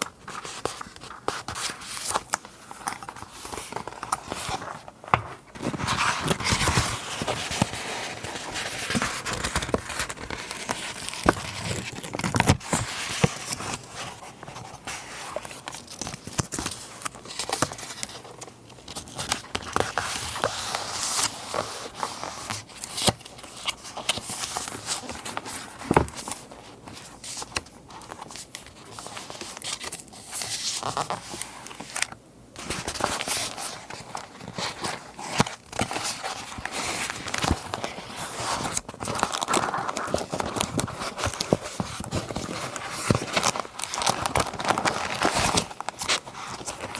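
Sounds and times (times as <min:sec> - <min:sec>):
paper rustling and crinkling: 0:00.0 - 0:46.9.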